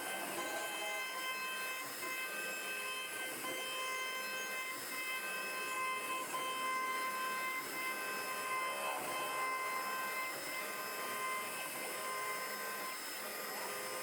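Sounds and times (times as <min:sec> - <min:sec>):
router spindle whine: 0:00.0 - 0:14.0
rushing wood cutting noise: 0:00.0 - 0:14.0.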